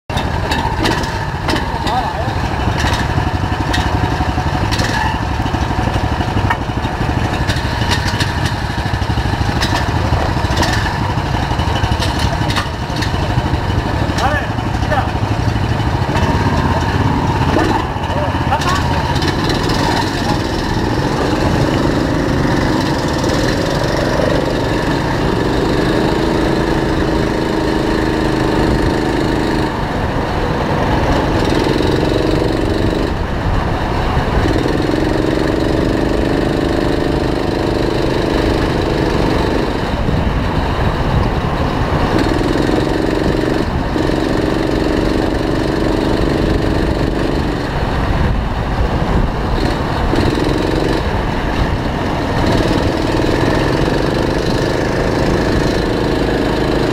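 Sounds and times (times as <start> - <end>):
go-kart engine buzzing: 0.1 - 56.9.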